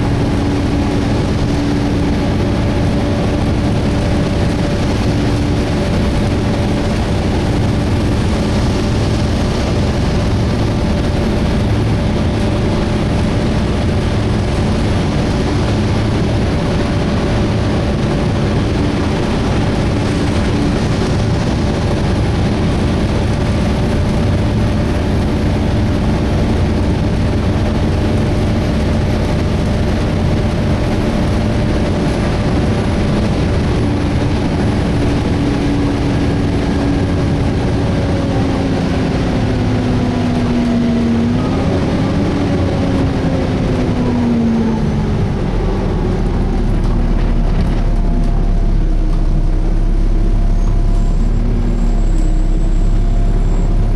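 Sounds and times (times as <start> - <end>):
bus diesel engine drone: 0.0 - 53.9
engine cooling fan running: 0.0 - 53.9.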